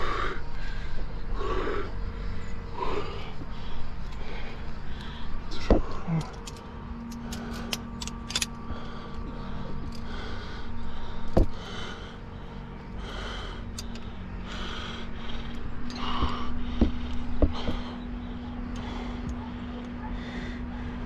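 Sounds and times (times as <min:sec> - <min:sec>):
person breathing hard: 0:00.0 - 0:06.4, 0:08.6 - 0:21.0
climbing gear clicks: 0:00.0 - 0:21.0.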